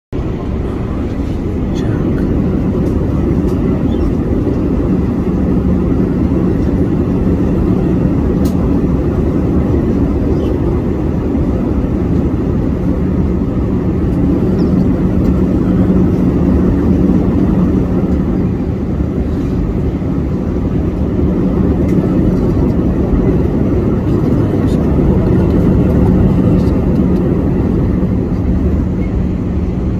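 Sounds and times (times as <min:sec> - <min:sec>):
airplane engines droning: 0:00.1 - 0:29.9
rushing air: 0:00.2 - 0:29.9.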